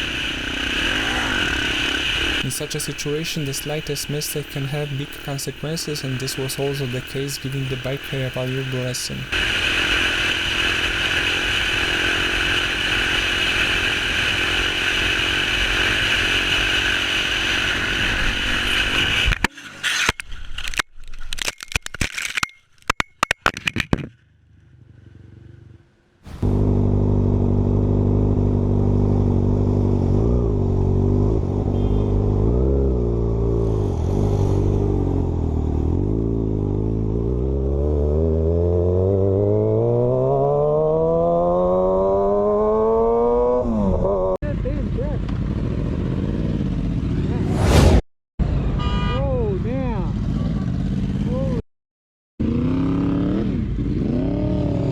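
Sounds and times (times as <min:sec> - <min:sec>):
motorcycle engine accelerating: 0:00.0 - 0:19.4, 0:24.2 - 0:48.0, 0:49.7 - 0:51.6, 0:52.4 - 0:54.9
wind and road noise: 0:00.0 - 0:51.6.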